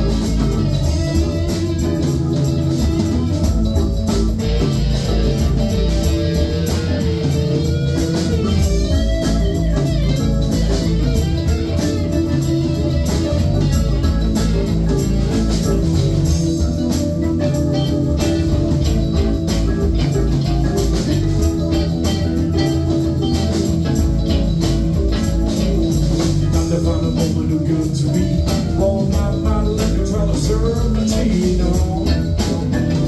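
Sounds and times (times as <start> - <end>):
bass guitar: 0.0 - 33.0
drums keeping a steady beat: 0.0 - 33.0
electric guitars: 0.0 - 33.0
keyboards: 0.0 - 33.0.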